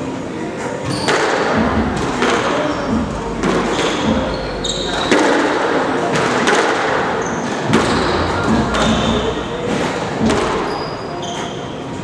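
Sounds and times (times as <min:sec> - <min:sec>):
court shoes squeaking: 0:00.0 - 0:12.0.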